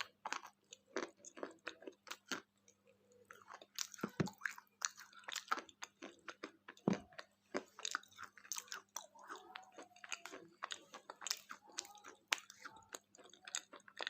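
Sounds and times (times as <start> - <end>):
chewing crunchy wafer bar: 0.0 - 14.0.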